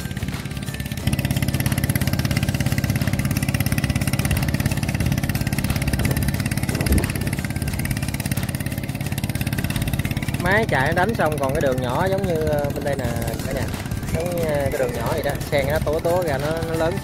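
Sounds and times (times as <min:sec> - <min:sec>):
tilling machine engine chugging: 0:00.0 - 0:17.0.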